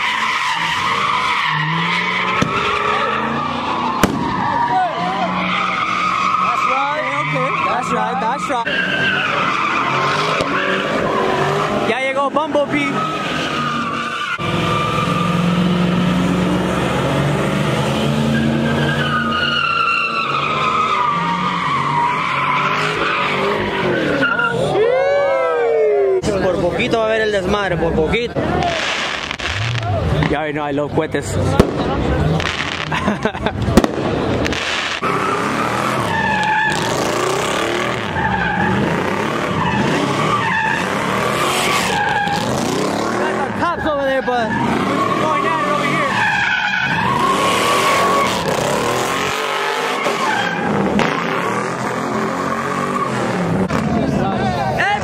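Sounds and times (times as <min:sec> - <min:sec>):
car engines revving high: 0:00.0 - 0:55.0
tires squealing: 0:00.0 - 0:55.0.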